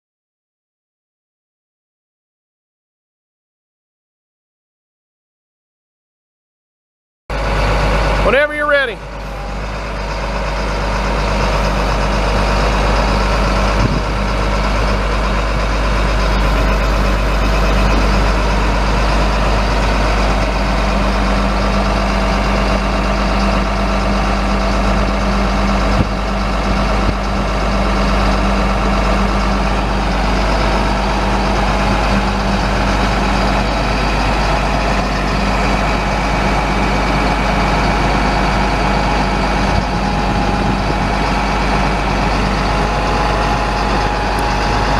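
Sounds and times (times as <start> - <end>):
diesel truck engine idling: 7.3 - 44.9.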